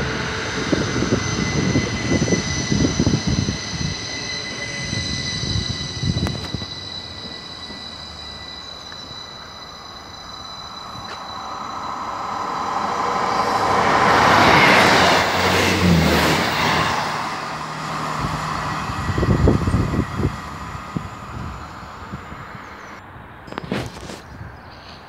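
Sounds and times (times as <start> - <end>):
electric train whine: 0.0 - 23.4
train passing at speed: 0.0 - 25.0.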